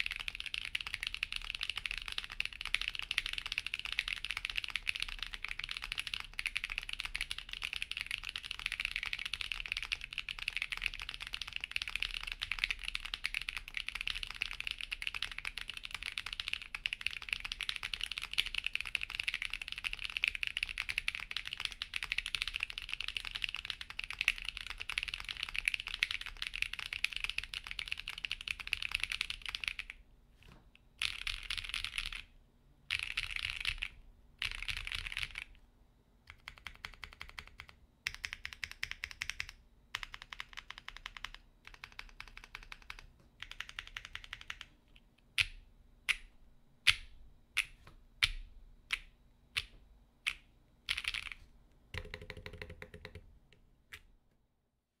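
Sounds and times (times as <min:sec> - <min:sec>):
mechanical keyboard typing: 0:00.0 - 0:30.0, 0:31.0 - 0:32.3, 0:32.9 - 0:35.6, 0:36.3 - 0:44.8, 0:50.3 - 0:53.3.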